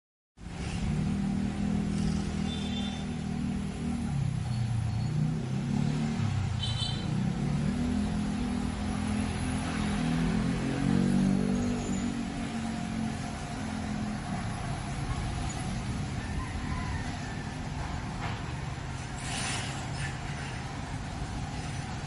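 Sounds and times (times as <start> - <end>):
car engines rumbling: 0.4 - 22.0.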